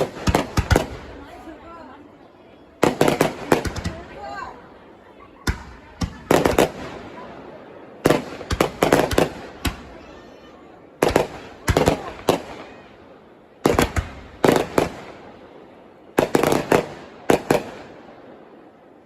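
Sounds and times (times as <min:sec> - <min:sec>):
fireworks bangs: 0:00.0 - 0:01.6, 0:02.7 - 0:18.6.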